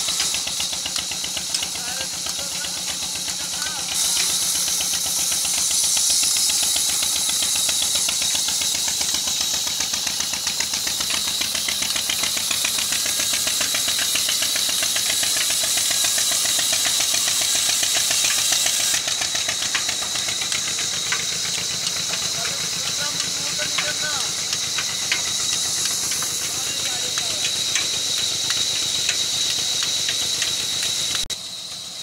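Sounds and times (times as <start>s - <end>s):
band saw cutting timber: 0.0s - 32.0s
stationary diesel engine running: 0.0s - 32.0s.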